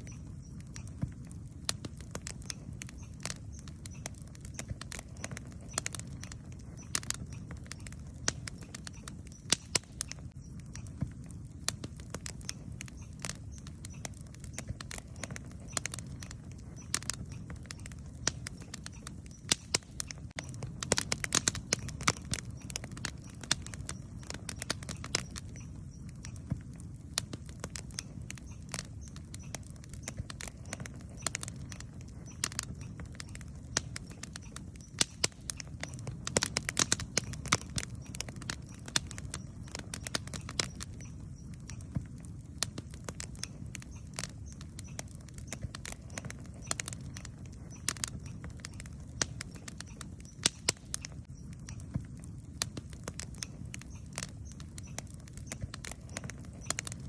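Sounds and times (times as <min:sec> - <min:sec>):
steady low rumble: 0:00.0 - 0:50.2
campfire crackling and popping: 0:00.0 - 0:57.0.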